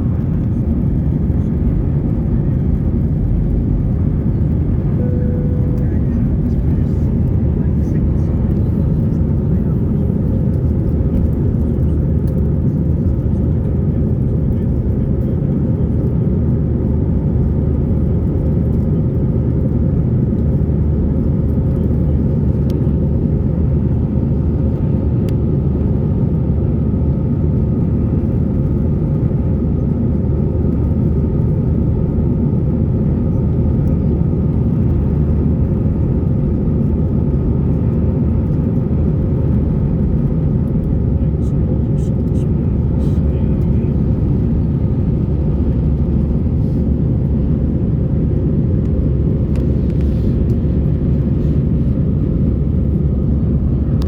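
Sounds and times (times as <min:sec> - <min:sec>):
airplane engines and airflow rumble: 0:00.0 - 0:54.0.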